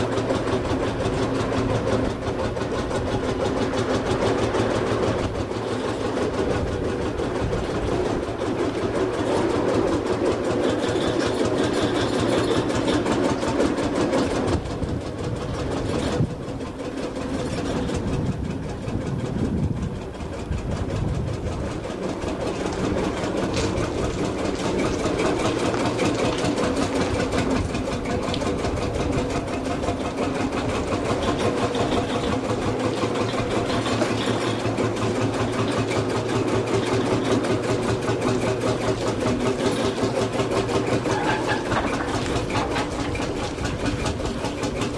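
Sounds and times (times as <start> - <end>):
tractor engine clattering: 0.0 - 44.9.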